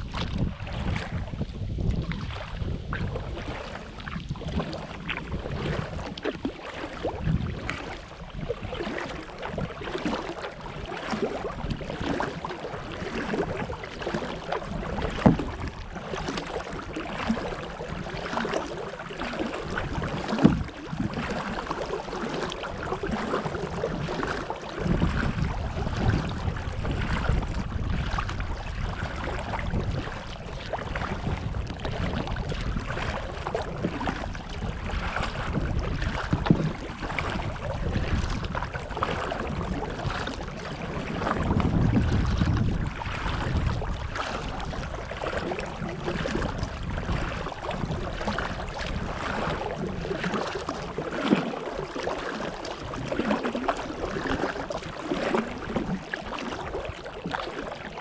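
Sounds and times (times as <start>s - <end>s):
paddle strokes in water: 0.0s - 58.0s
wind on microphone: 0.0s - 58.0s.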